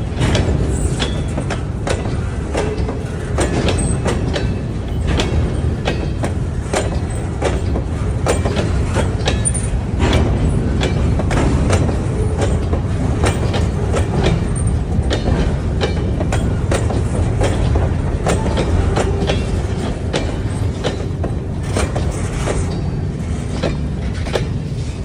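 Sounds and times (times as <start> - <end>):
train rumbling past: 0.0 - 25.0
wheels clacking over rail joints: 0.0 - 25.0.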